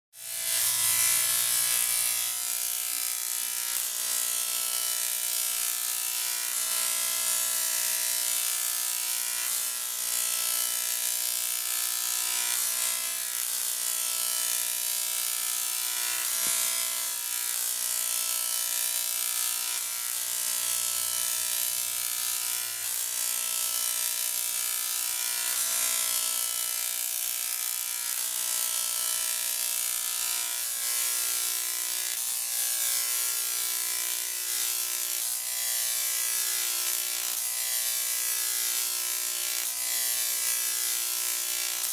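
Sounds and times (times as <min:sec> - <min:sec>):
electric spark arcing buzz: 0:00.2 - 0:41.9.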